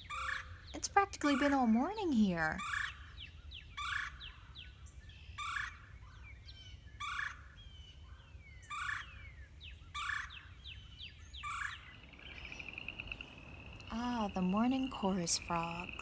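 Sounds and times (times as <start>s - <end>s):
bird harsh call: 0.0s - 4.8s, 5.4s - 6.2s, 7.0s - 10.6s, 11.3s - 16.0s
small birds chirping: 0.0s - 16.0s.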